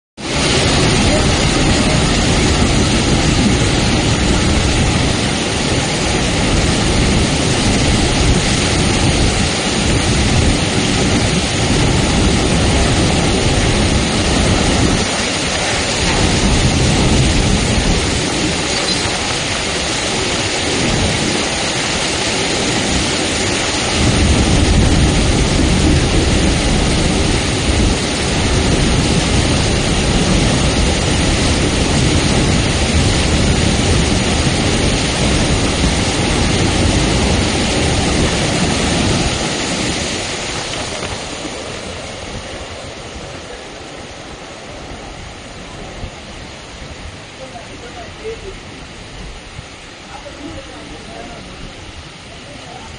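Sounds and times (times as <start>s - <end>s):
heavy rain falling: 0.2s - 52.9s.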